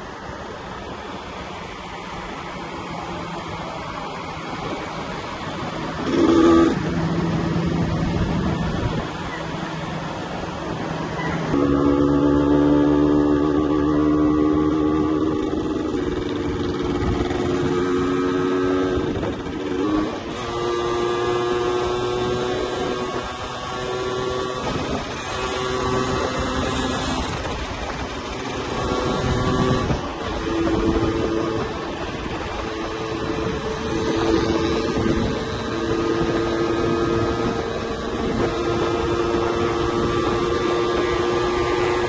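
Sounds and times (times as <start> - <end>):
wind noise on microphone: 0.0 - 42.0
two-stroke motorcycle engine at high revs: 4.3 - 42.0.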